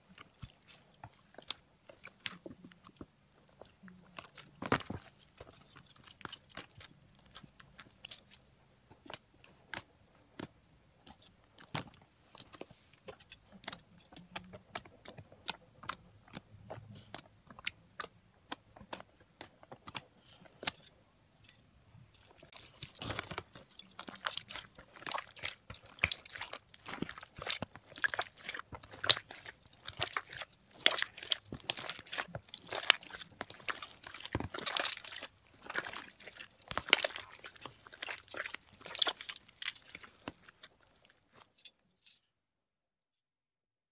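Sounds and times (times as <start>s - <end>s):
slime squelching and crackling: 0.0s - 21.0s, 21.9s - 41.7s.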